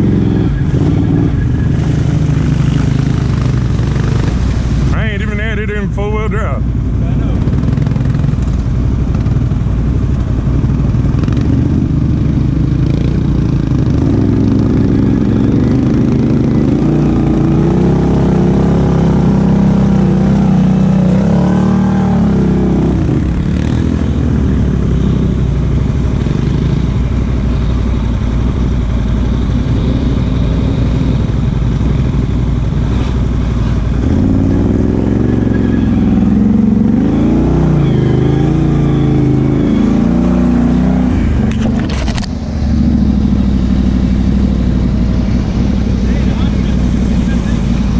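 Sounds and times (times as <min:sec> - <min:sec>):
atv engine revving under load: 0:00.0 - 0:05.6, 0:06.9 - 0:47.9.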